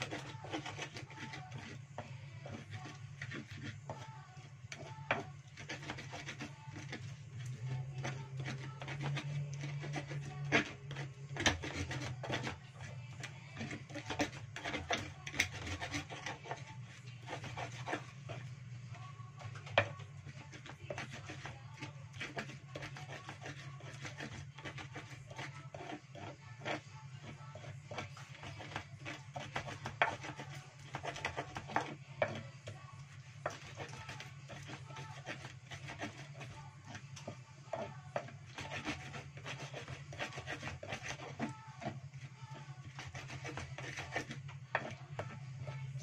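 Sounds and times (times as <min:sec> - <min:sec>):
pestle grinding in stone mortar: 0:00.0 - 0:46.0.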